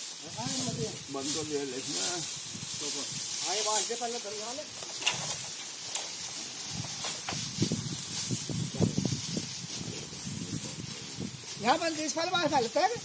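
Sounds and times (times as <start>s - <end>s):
dry straw rustling: 0.0s - 13.0s.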